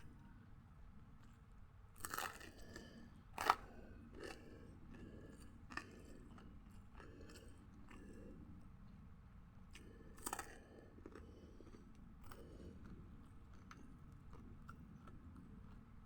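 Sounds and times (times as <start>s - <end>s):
person chewing crunchy food: 2.0s - 8.9s, 9.5s - 16.0s.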